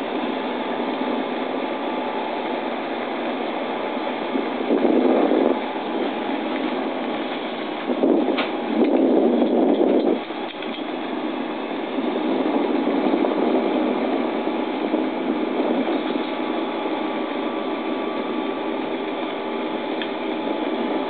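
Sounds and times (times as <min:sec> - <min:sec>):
faint steady hum: 0:00.0 - 0:21.0
wind rushing on microphone: 0:00.0 - 0:21.0.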